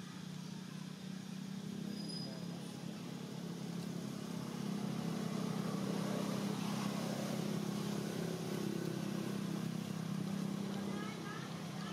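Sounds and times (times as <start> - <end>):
engine running low drone: 0.0 - 11.9.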